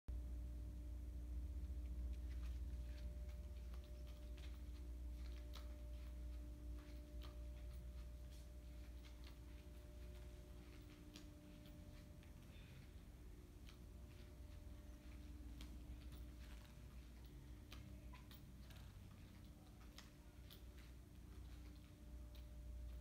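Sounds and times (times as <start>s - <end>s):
steady hum: 0.1s - 23.0s.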